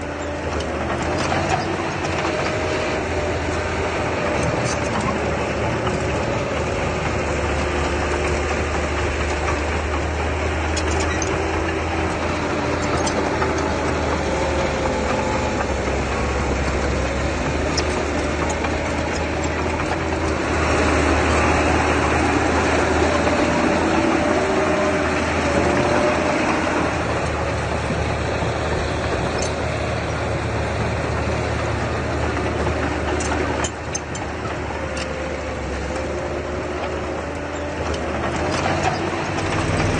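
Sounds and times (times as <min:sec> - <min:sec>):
earthmoving machine engine running: 0:00.0 - 0:39.9.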